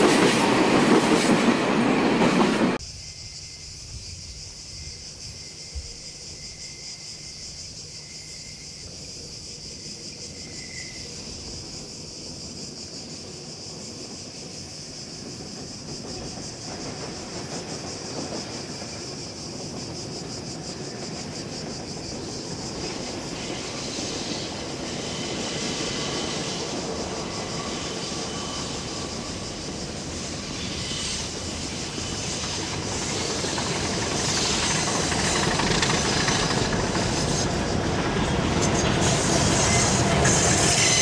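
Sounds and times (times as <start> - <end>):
freight train engine rumble: 0.0 - 41.0
high buzz of insects: 0.0 - 41.0.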